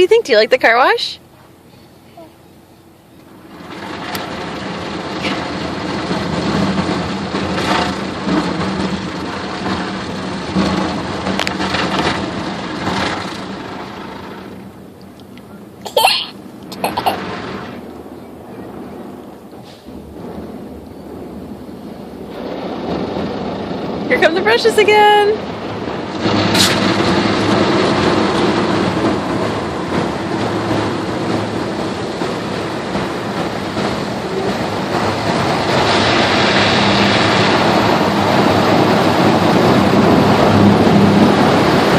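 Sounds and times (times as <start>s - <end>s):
water jets spraying on car: 3.2s - 19.2s, 19.9s - 41.9s.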